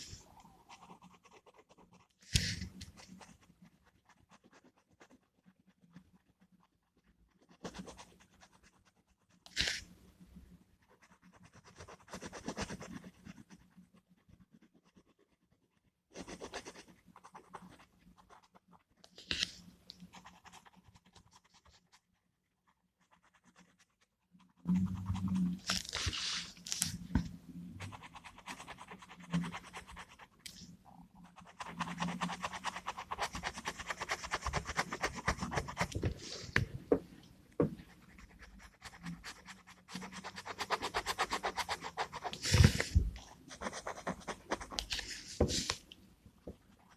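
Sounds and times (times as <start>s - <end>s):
gel pen scratching on paper: 0.0s - 10.0s, 10.7s - 46.9s.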